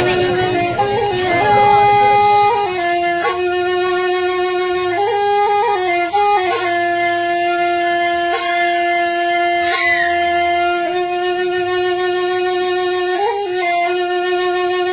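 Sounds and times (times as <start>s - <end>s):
solo wind instrument melody: 0.0s - 14.9s.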